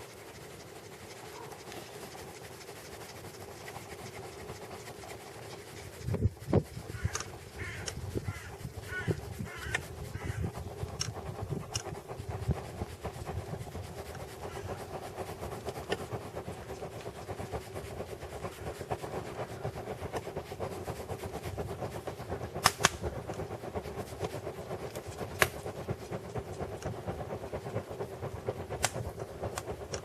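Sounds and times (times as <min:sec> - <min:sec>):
campfire rushing and fluttering: 0:00.0 - 0:30.0
fire crackling: 0:00.0 - 0:30.0.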